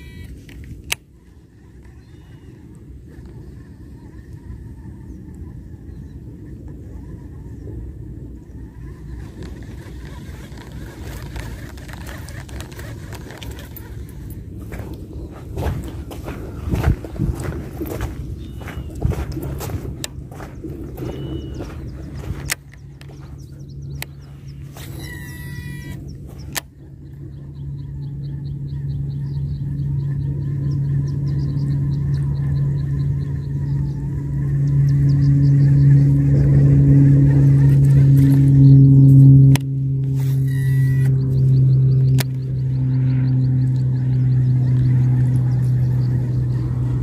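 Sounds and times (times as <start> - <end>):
fishing reel spool whirring: 0.0 - 15.9, 19.8 - 47.0
low drone: 0.0 - 47.0
wind rumbling on microphone: 0.0 - 47.0.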